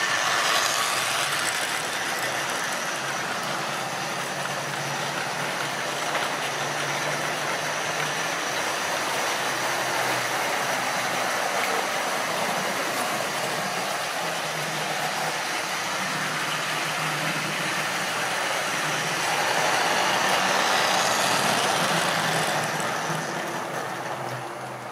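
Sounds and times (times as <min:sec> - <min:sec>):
model train motor whir: 0:00.0 - 0:24.9.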